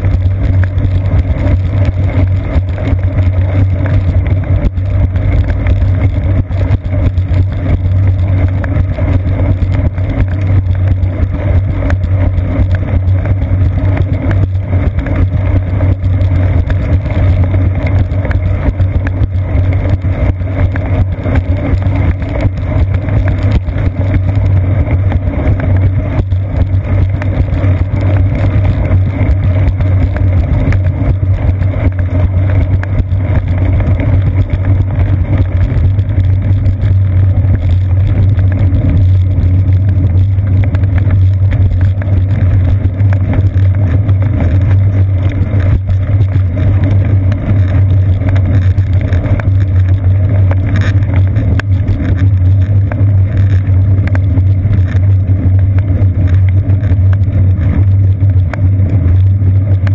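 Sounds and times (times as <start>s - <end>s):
bicycle rumbling over wet pavement: 0.0s - 59.9s
wind: 0.0s - 59.9s.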